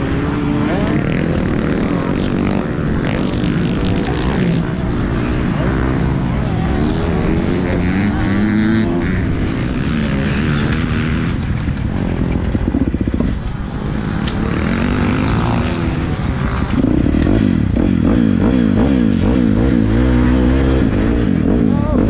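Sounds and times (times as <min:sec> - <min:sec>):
motorbike engines revving: 0:00.0 - 0:22.0.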